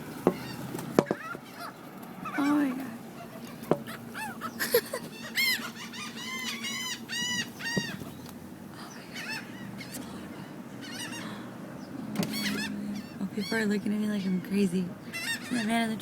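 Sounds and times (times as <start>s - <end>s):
seagulls squawking: 0.0s - 8.4s, 9.1s - 16.0s.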